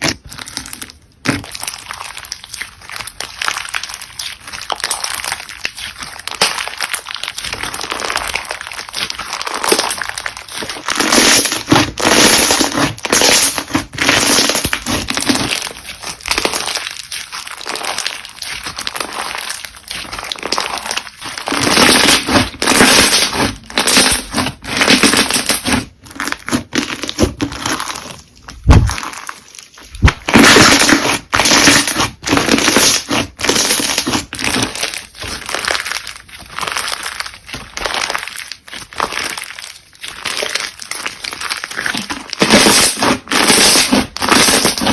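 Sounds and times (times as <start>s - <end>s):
crunchy slime squeezed by hand: 0.0s - 44.9s.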